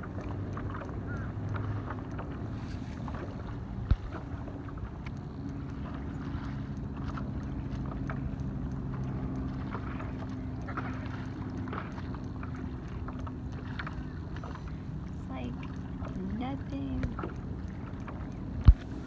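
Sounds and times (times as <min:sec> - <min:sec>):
water noise: 0:00.0 - 0:19.0
wind: 0:00.0 - 0:19.0.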